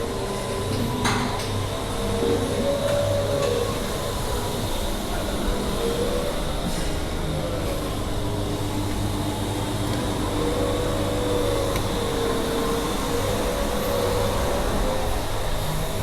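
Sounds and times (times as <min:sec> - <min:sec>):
milking machinery humming: 0:00.0 - 0:16.0.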